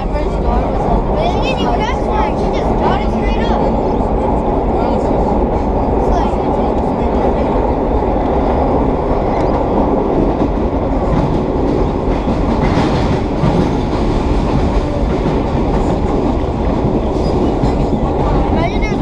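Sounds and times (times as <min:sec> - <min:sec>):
subway train rumbling in tunnel: 0:00.0 - 0:19.0.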